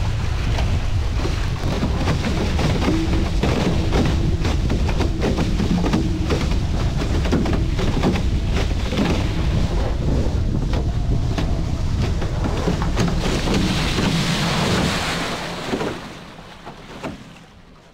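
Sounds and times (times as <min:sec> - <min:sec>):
wind buffeting camera: 0:00.0 - 0:16.6
rushing water: 0:00.0 - 0:17.9.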